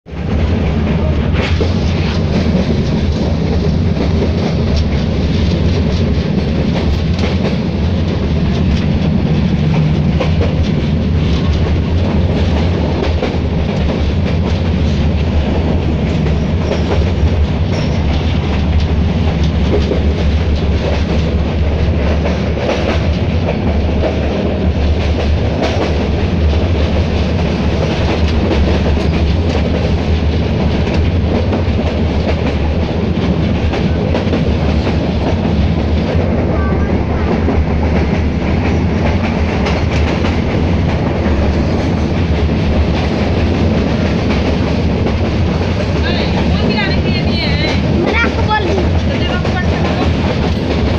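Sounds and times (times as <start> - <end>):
train running low rumble: 0.1 - 50.9
wheels clattering on rails: 0.1 - 50.9.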